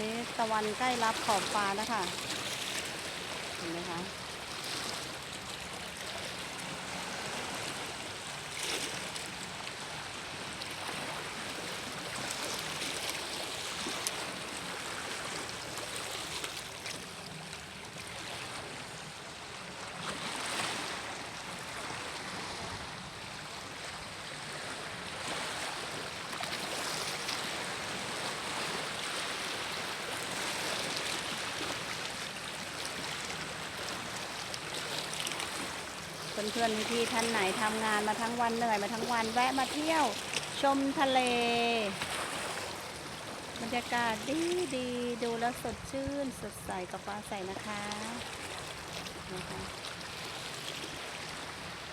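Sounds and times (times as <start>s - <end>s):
sea waves washing on beach: 0.0s - 51.9s.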